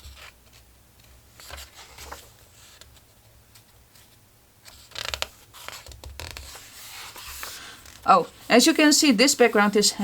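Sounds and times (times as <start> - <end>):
paper pages rustling: 0.0 - 9.8.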